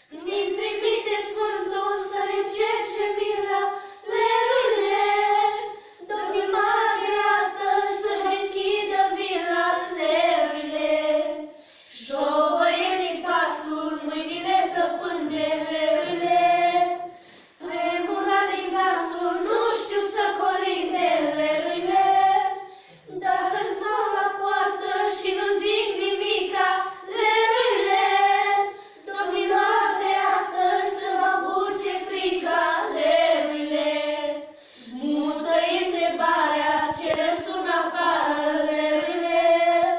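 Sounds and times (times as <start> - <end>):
girls singing in unison: 0.0 - 39.9.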